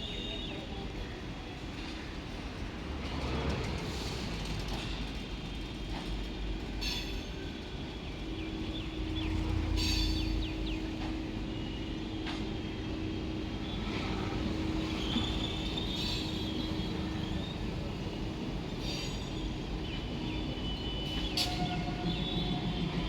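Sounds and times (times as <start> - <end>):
train cars rumbling: 0.1 - 23.0.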